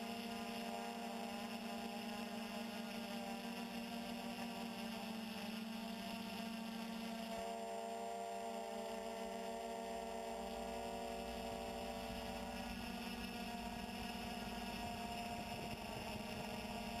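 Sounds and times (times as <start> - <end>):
quadcopter propellers humming: 0.0 - 17.0.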